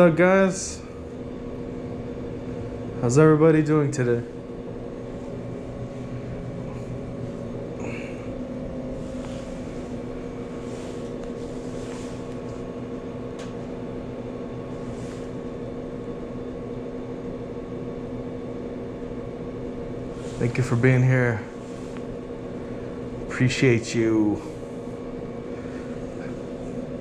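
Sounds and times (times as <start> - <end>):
electric machine hum: 0.0 - 27.0.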